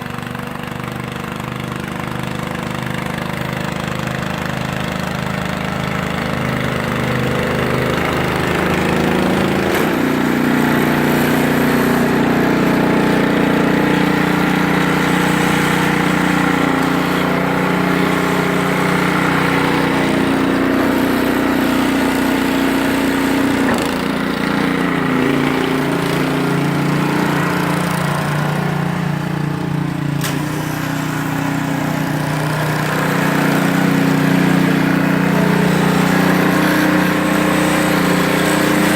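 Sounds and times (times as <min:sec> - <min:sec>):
small engine running under load: 0:00.0 - 0:38.9.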